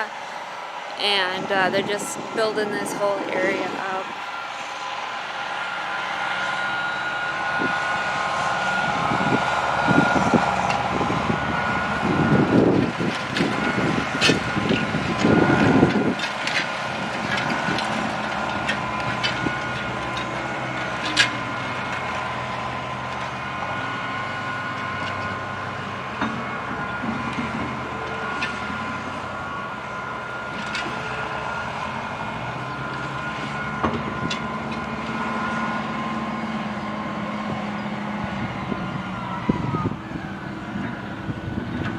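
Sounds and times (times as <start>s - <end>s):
heavy earthmoving machinery running: 0.0s - 41.9s.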